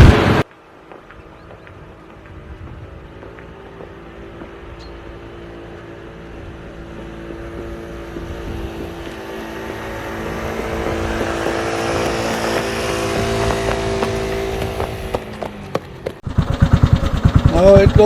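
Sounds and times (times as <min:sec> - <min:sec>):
garden tractor engine running: 0:00.0 - 0:18.0.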